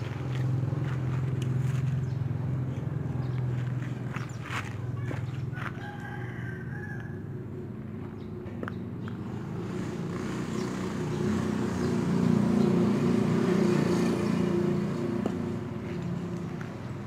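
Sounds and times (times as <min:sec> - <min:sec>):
vehicle engine passing by: 0:00.0 - 0:06.7, 0:07.6 - 0:17.0.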